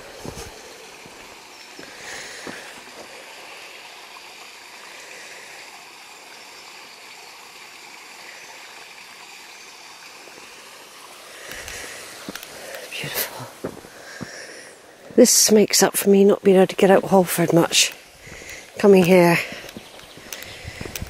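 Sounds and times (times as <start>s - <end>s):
stream running over stones: 0.0s - 21.0s.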